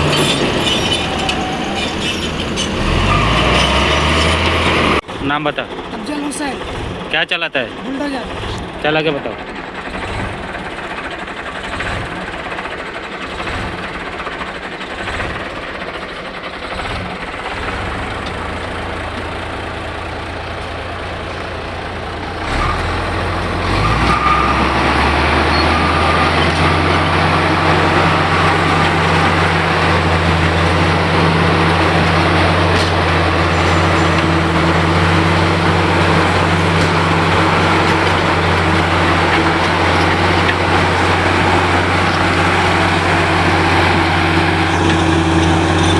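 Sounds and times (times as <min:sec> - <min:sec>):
bulldozer diesel engine: 0:00.0 - 0:45.9.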